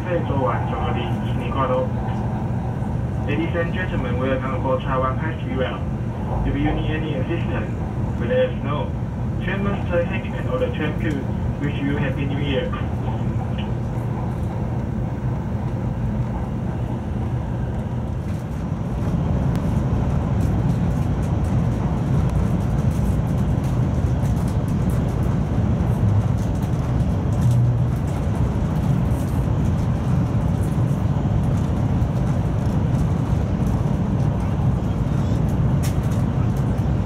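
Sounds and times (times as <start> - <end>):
train cabin rumble: 0.0 - 37.0.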